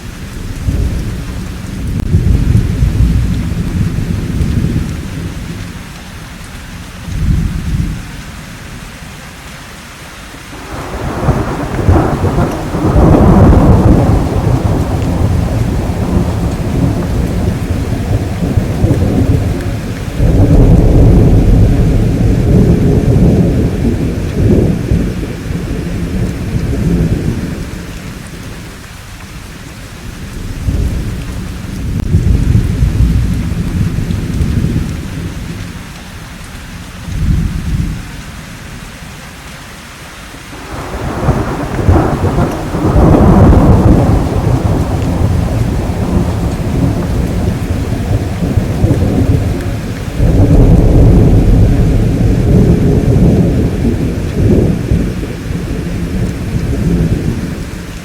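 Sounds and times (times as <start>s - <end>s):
rolling thunder: 0.0s - 5.9s, 6.8s - 8.2s, 10.6s - 36.0s, 36.8s - 38.2s, 40.6s - 58.0s
steady rain: 0.0s - 58.0s.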